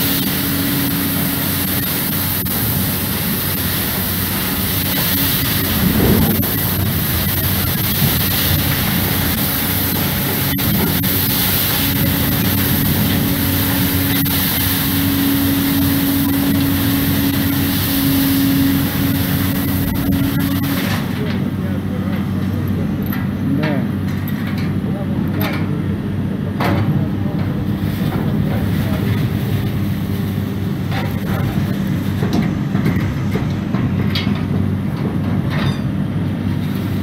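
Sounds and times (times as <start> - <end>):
hydraulic machine noise: 0.0 - 37.0
steady hum: 0.0 - 37.0.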